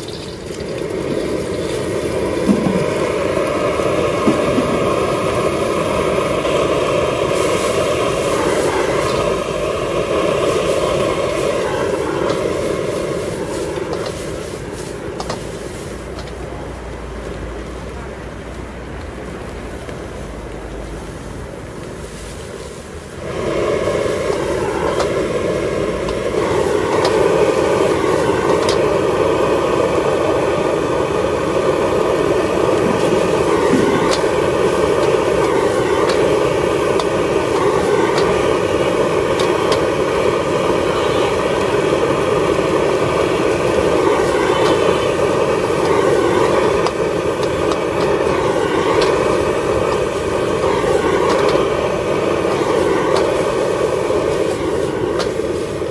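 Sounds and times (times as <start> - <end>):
gas burner roaring: 0.0 - 55.9.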